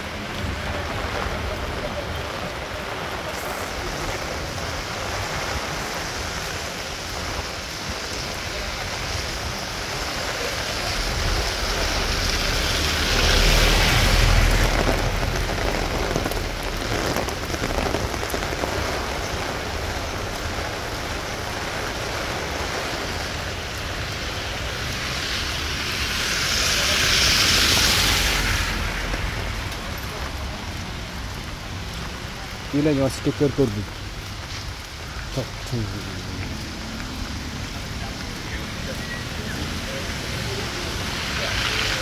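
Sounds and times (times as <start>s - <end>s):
heavy rain on street: 0.0s - 42.0s.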